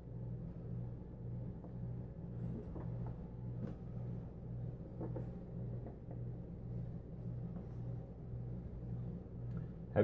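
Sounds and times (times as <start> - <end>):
pulsing mechanical hum: 0.0 - 10.0.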